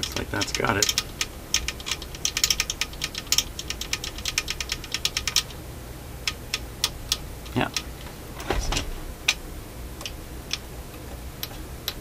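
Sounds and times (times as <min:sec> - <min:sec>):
turntable mechanism clicking: 0:00.0 - 0:05.6, 0:06.2 - 0:09.4, 0:10.0 - 0:12.0.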